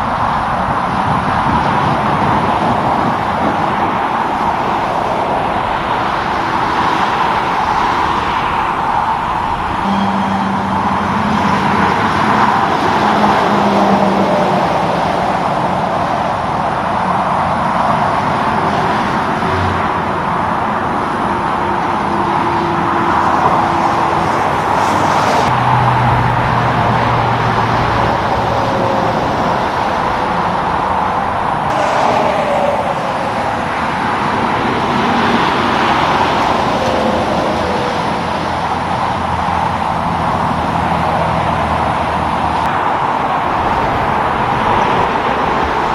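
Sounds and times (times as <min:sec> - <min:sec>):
falling vehicle whine: 0:00.0 - 0:45.9
road traffic passing: 0:00.0 - 0:45.9.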